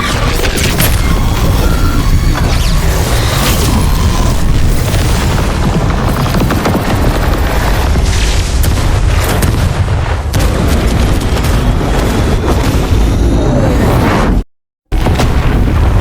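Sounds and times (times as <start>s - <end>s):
booms and blast impacts: 0.0s - 16.0s.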